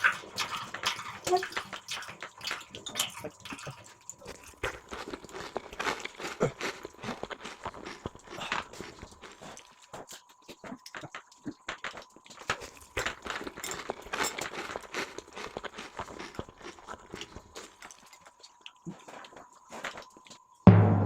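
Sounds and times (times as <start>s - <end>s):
chewing with mouth clicks: 0.0s - 20.6s.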